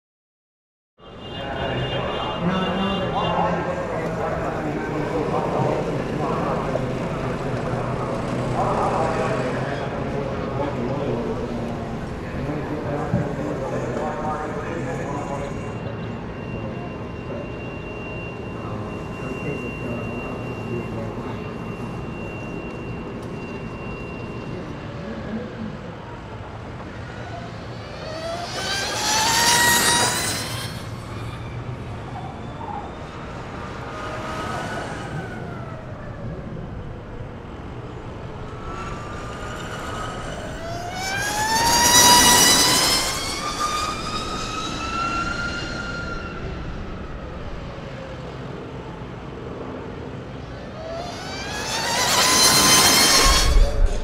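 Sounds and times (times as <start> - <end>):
electric motorcycles whining past: 3.5 - 25.0, 25.7 - 48.5, 49.2 - 54.0.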